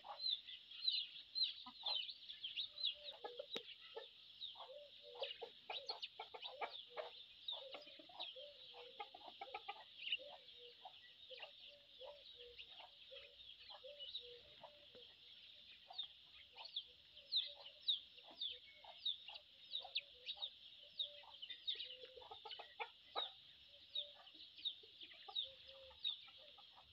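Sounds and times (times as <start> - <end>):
chickens clucking: 0.0 - 26.9.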